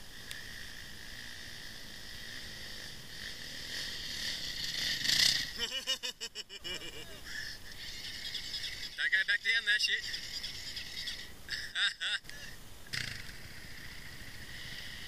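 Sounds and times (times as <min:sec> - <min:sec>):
dirt bike passing: 0:00.0 - 0:11.5, 0:12.8 - 0:15.0
insects chirping: 0:00.0 - 0:15.0.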